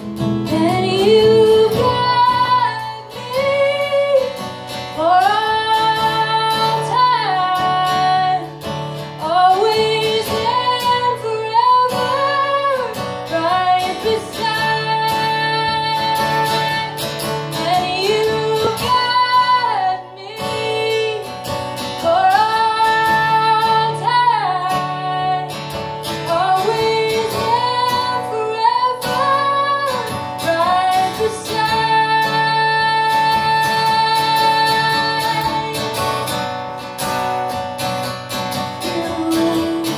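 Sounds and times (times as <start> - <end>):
woman singing: 0.0 - 36.6, 38.3 - 39.9
acoustic guitar accompaniment: 0.0 - 39.9.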